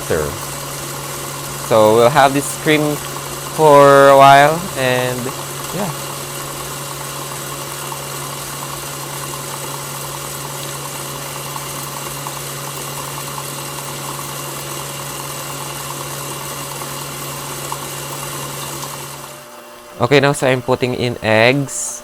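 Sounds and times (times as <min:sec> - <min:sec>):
stand mixer motor humming: 0:00.0 - 0:22.0.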